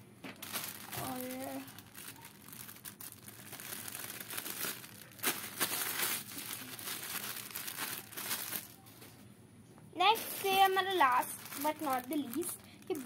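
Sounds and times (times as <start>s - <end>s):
plastic packet crinkling: 0.4s - 9.0s, 10.0s - 13.0s.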